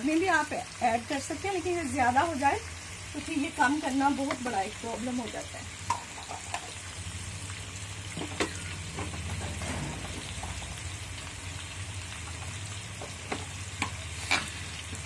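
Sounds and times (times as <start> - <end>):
meat and onions sizzling: 0.0 - 15.0.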